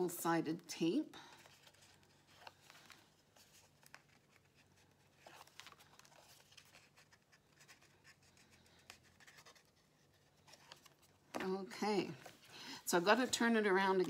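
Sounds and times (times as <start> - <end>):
paper rustling: 1.3 - 14.0.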